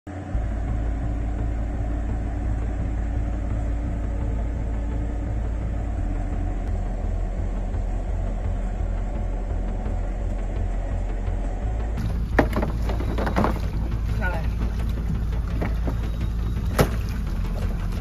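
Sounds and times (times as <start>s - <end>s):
boat engines rumbling: 0.1s - 18.0s.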